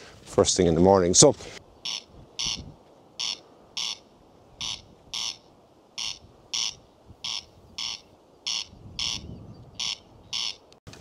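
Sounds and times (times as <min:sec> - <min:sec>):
corncrake calling: 0:01.7 - 0:10.8.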